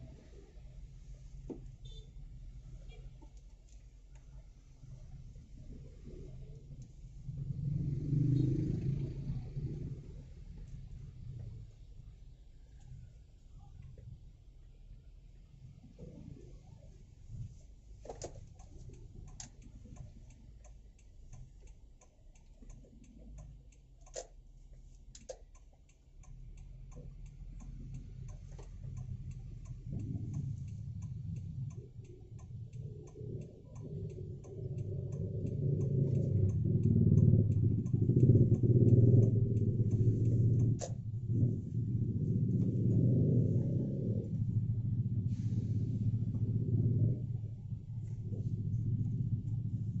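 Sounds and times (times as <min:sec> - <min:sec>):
car engine and road rumble: 0:00.0 - 0:50.0
turn signal ticking: 0:00.0 - 0:50.0.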